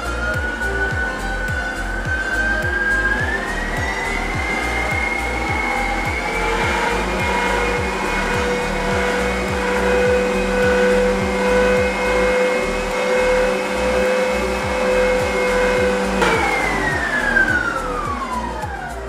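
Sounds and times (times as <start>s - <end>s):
mixer motor whine spinning down: 0.0s - 19.0s
stand mixer motor running: 0.0s - 19.0s.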